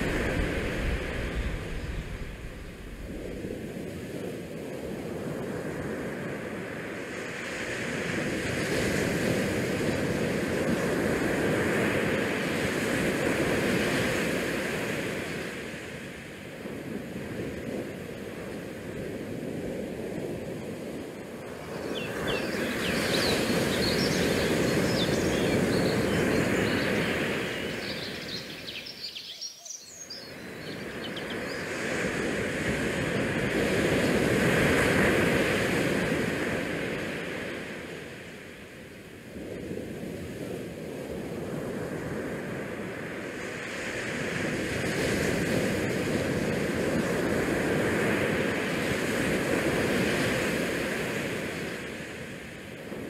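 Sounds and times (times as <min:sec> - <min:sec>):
wind: 0:00.0 - 0:53.0.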